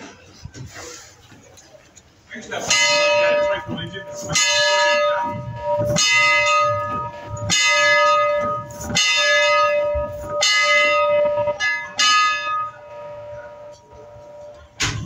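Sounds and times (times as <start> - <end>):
locomotive bell ringing: 2.4 - 15.0.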